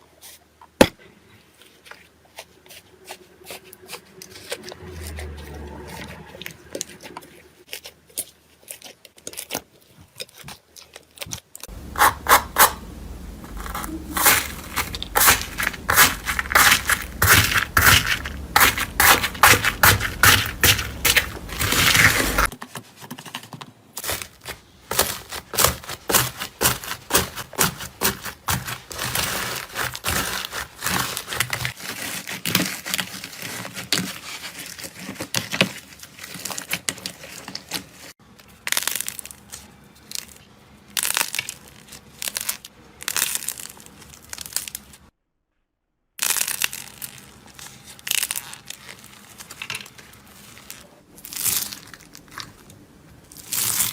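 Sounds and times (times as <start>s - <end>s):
crunchy material crackling: 1.7s - 22.5s, 24.0s - 45.0s, 46.2s - 53.9s.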